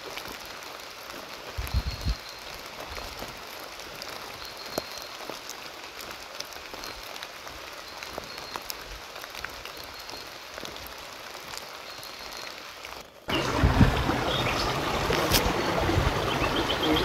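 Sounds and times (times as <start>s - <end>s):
rain pattering on leaves: 0.0s - 17.0s.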